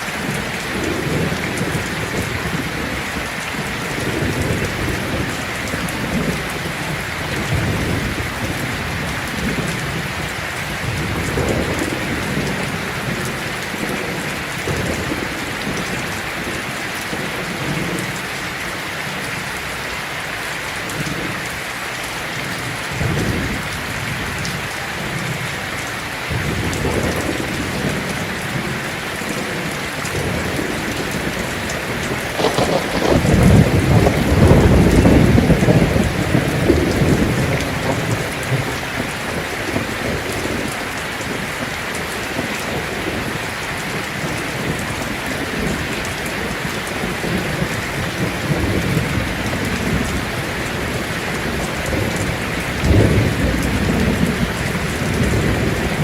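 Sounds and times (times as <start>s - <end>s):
thunder rumbling: 0.0s - 18.3s, 22.5s - 56.0s
heavy rain on a tin roof: 0.0s - 56.0s.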